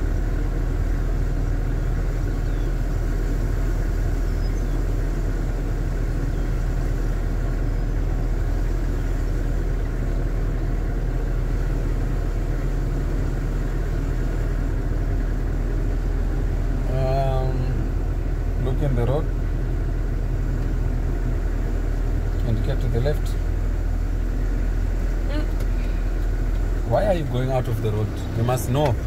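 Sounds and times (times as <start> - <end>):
road noise: 0.0 - 29.0
truck engine running: 0.0 - 29.0.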